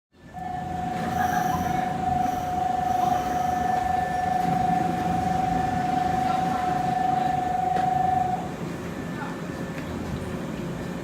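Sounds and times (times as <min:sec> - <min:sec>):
electric train rumbling: 0:00.2 - 0:11.0
high-pitched train whine: 0:00.2 - 0:11.0.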